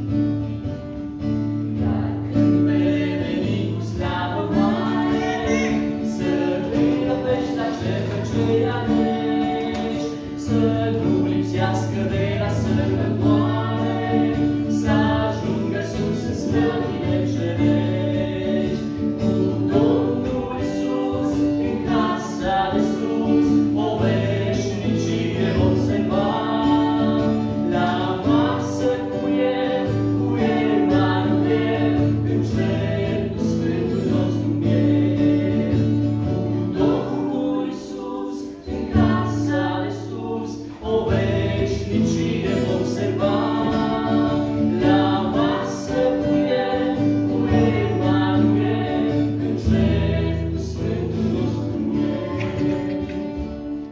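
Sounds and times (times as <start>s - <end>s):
acoustic guitar: 0.0s - 53.9s
voices singing: 1.5s - 53.9s.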